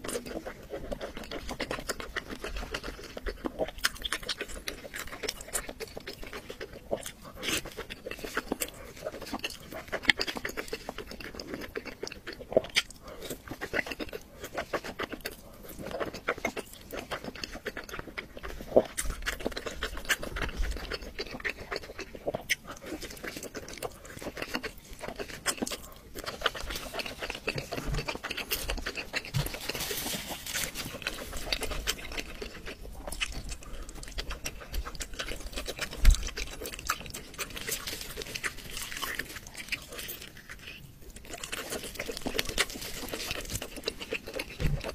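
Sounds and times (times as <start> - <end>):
chewing and mouth noises: 0.0 - 44.9.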